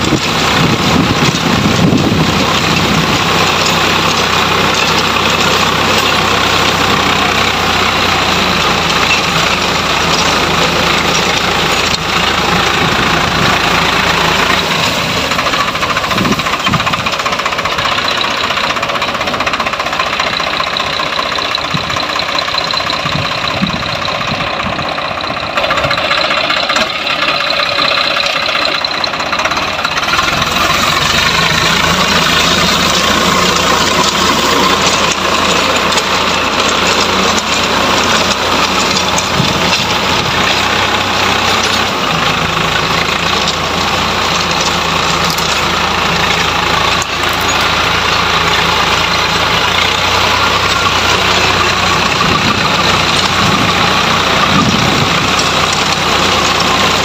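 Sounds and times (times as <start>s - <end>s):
rotavator churning soil: 0.0s - 57.0s
tractor diesel engine under load: 0.0s - 57.0s.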